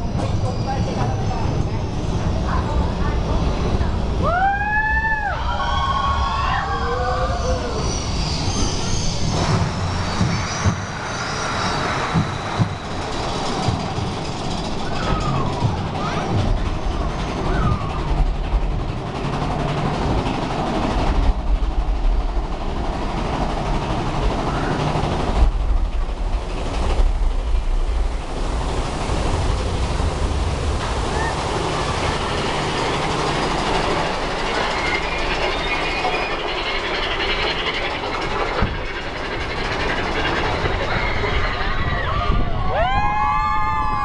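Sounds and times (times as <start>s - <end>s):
roller coaster cars rattling: 0.0s - 44.0s
roller coaster rumbling on track: 0.0s - 44.0s.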